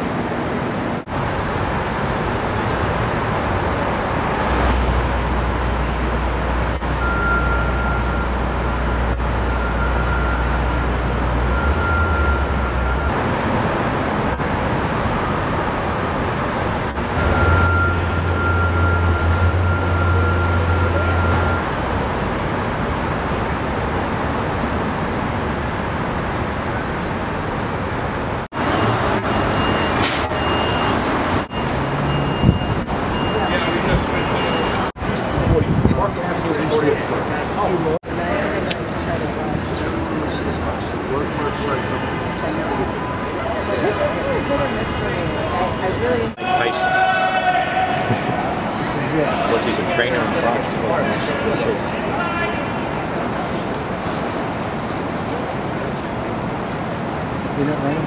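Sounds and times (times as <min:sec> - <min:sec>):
city traffic rush: 0:00.0 - 0:58.0.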